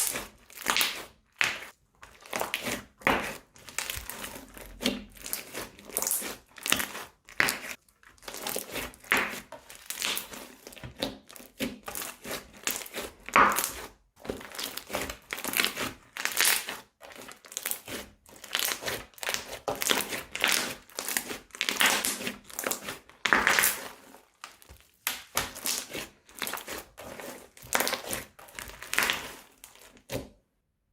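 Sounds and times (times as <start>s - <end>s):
slime squishing: 0.0s - 30.4s.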